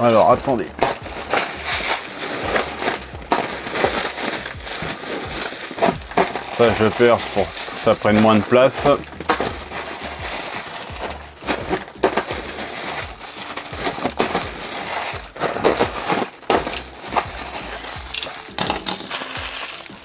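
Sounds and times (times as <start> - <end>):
plastic crackling and rustling: 0.0 - 20.0.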